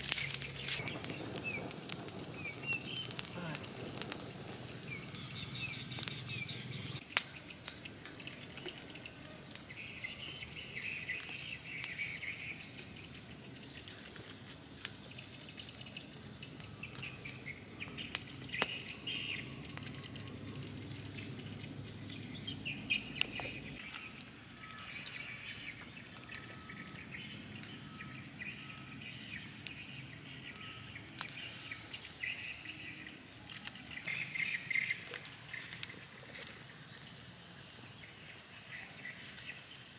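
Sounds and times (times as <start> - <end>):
birds chirping: 0.0 - 14.1, 15.0 - 39.9
wood fire crackling: 0.0 - 39.9.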